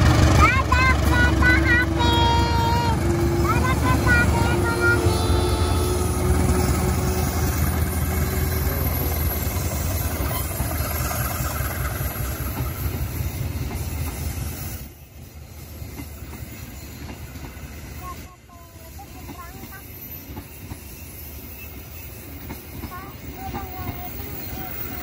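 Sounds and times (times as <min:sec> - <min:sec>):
train rolling past: 0:00.0 - 0:25.0.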